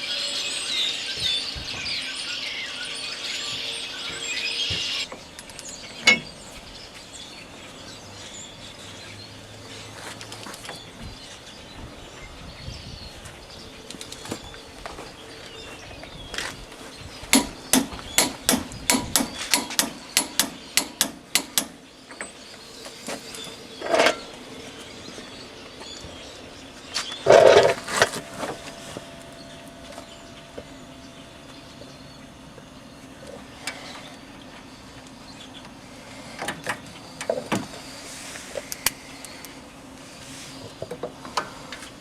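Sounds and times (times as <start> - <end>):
birds calling: 0.0 - 42.0.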